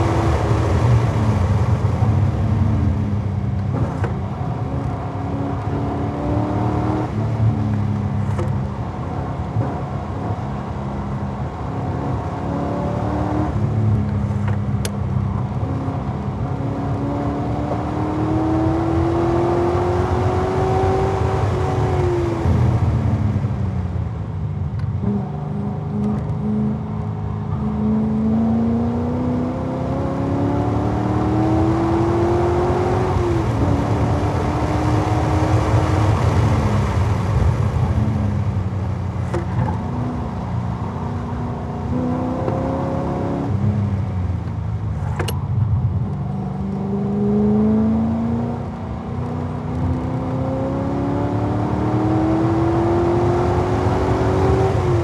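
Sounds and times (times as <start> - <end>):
car engine at full throttle: 0.0 - 55.0
wind and tyre noise: 0.0 - 55.0.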